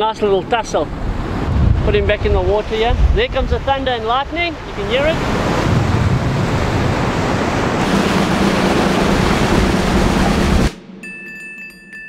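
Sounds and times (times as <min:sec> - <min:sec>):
wind buffeting microphone: 0:00.8 - 0:10.7
surf breaking: 0:00.9 - 0:10.8.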